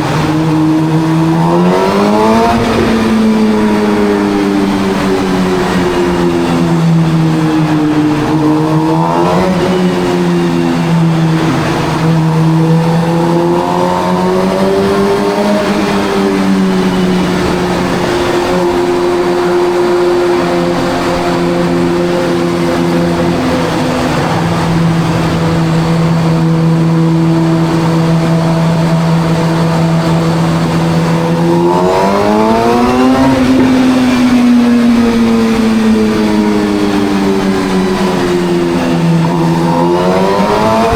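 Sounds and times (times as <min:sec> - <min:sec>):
motorcycle engine running in tunnel: 0:00.0 - 0:40.9.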